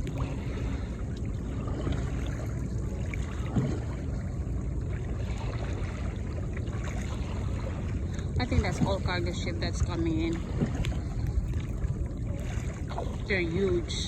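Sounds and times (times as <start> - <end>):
steady low rumble: 0.0 - 14.0
water lapping against kayak hull: 0.0 - 14.0.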